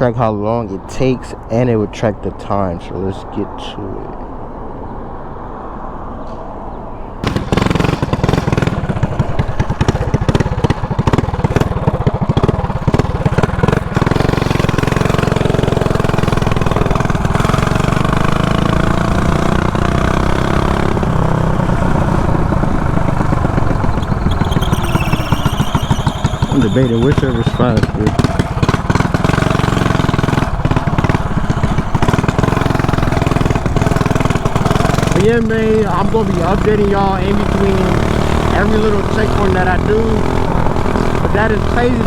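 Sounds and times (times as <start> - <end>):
mini bike engine revving: 7.2 - 42.0.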